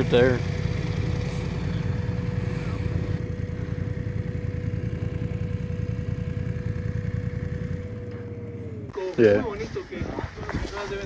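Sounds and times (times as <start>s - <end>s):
motorcycle engine idling: 0.0s - 9.6s
thin steady whine: 0.0s - 9.6s.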